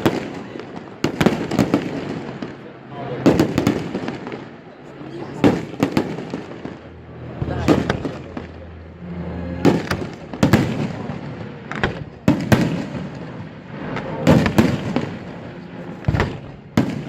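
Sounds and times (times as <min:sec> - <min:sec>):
fireworks bangs: 0:00.0 - 0:17.0
fireworks crackling: 0:00.0 - 0:17.0
rumbling echo: 0:00.0 - 0:17.0.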